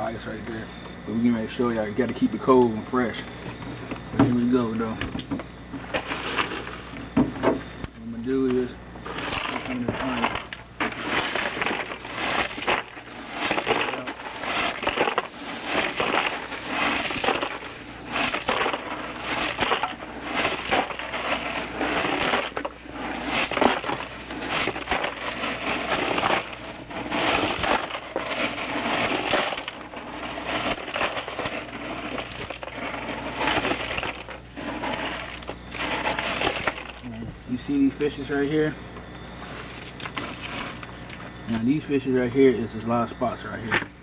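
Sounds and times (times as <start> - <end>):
ice crunching and rattling in cooler: 4.2 - 44.0.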